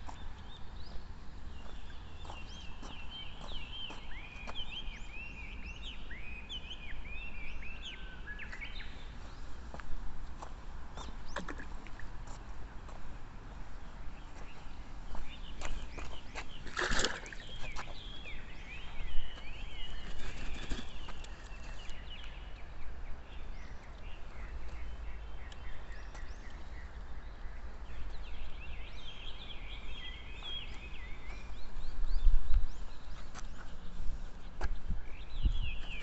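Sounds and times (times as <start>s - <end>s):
low rumble of wind: 0.0s - 36.0s
small birds twittering: 0.0s - 36.0s.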